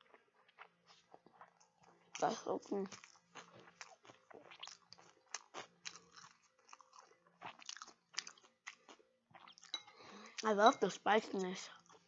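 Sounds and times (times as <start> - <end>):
person chewing food: 0.0 - 10.5, 11.7 - 12.0.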